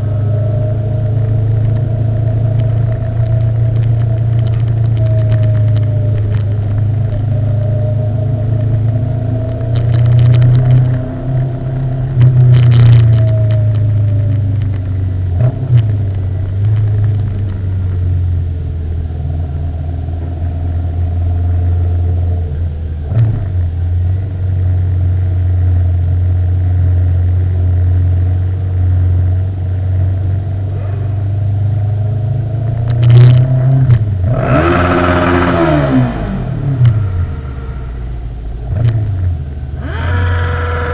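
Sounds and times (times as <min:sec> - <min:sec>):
motorcycle engine drone: 0:00.0 - 0:40.9.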